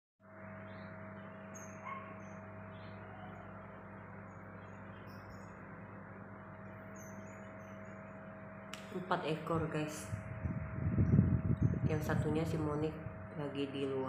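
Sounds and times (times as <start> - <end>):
low hum and hiss: 0.3 - 14.0.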